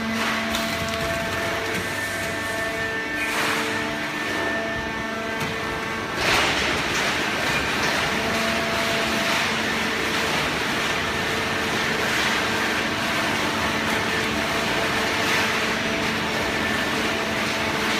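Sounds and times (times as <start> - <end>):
hydraulic baling press running: 0.0 - 17.9.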